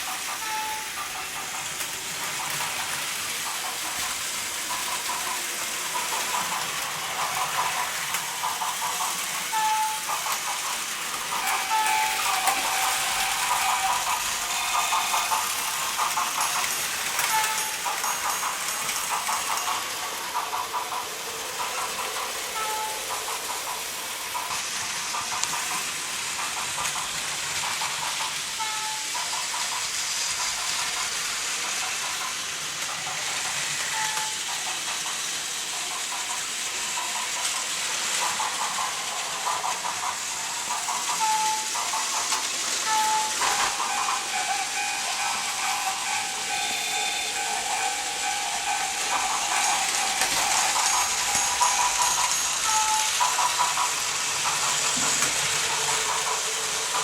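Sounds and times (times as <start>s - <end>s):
toy train motor whir: 0.0s - 57.0s
wheels rattling on track: 0.0s - 57.0s.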